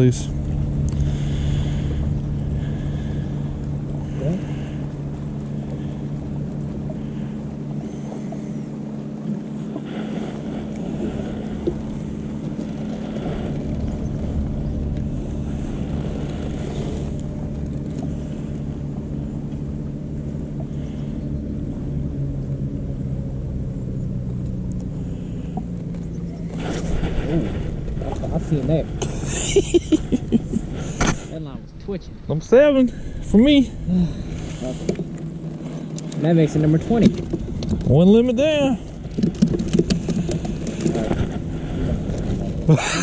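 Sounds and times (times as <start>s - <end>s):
electric trolling motor humming: 0.0s - 43.0s
low rumble: 0.0s - 43.0s.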